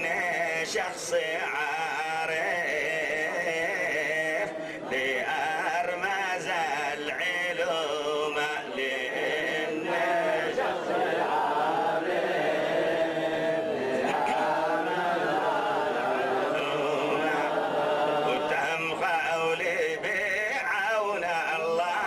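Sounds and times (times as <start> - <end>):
men chanting a hymn: 0.0 - 22.0.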